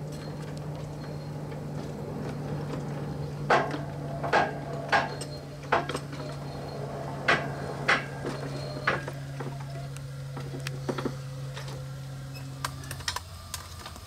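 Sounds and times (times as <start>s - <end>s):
steady low hum: 0.0s - 14.0s
metallic clanks and knocks: 0.1s - 11.8s.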